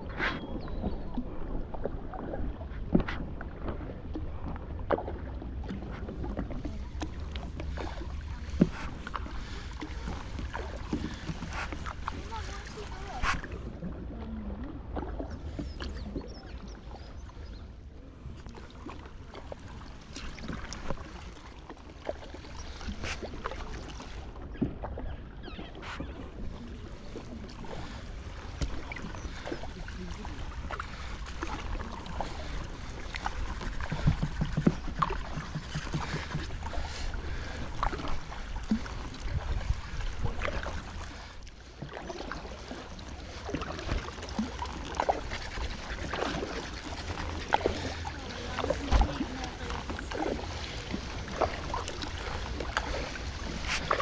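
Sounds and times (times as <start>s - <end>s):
paddle splashing in water: 0.0s - 54.0s.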